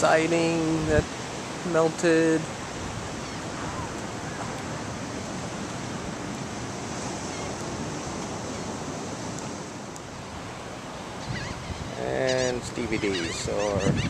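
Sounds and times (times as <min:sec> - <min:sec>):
ocean surf: 0:00.0 - 0:14.0
wind: 0:00.0 - 0:14.0.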